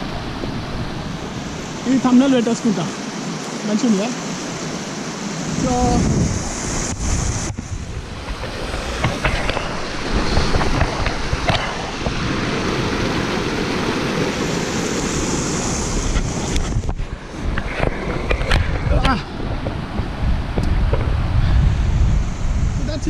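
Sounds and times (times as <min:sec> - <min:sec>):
waterfall rushing: 0:00.0 - 0:20.5
wind noise on microphone: 0:04.4 - 0:23.0.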